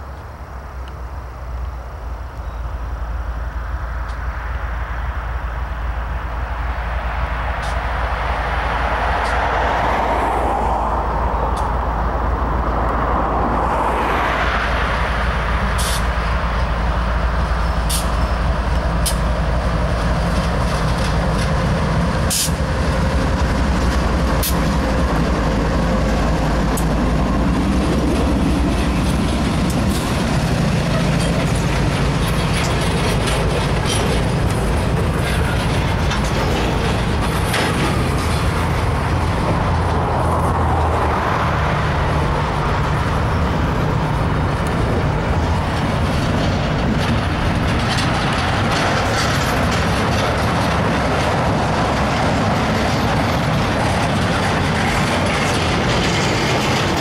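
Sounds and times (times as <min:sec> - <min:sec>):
freight train cars rolling past: 0:00.0 - 0:57.0
sharp clicks of train wheels: 0:07.5 - 0:12.0, 0:14.6 - 0:57.0.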